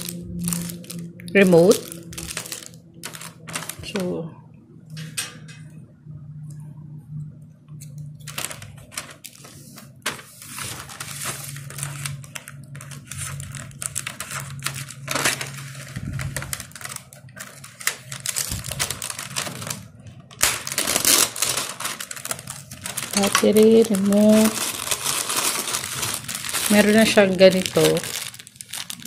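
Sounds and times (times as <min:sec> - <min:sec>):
plastic wrap crinkling: 0:00.0 - 0:04.2, 0:08.0 - 0:29.0
steady low hum: 0:00.0 - 0:29.0.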